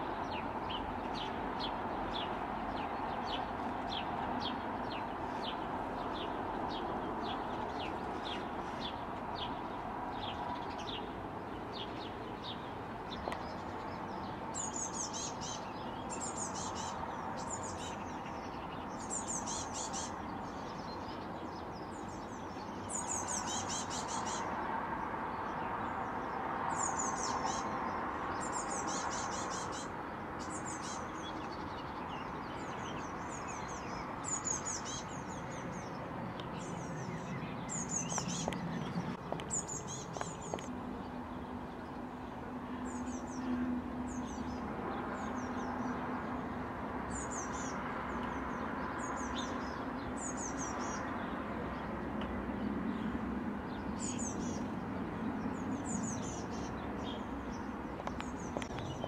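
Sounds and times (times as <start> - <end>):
songbirds calling: 0.0 - 59.0.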